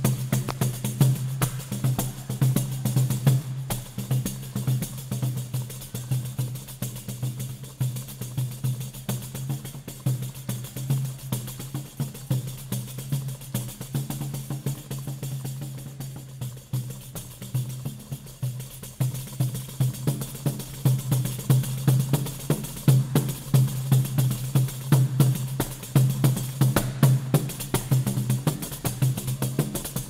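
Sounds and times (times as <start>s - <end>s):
pandeiro rhythm with jingles: 0.0s - 30.0s.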